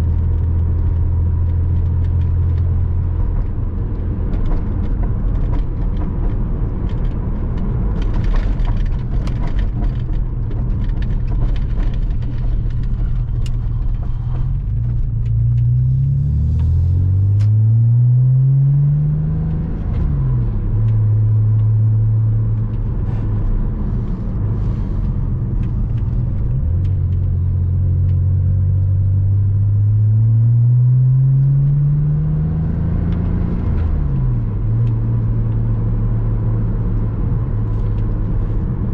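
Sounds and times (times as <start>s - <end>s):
car engine revving: 0.0s - 38.9s
tyre and road rumble: 0.0s - 38.9s.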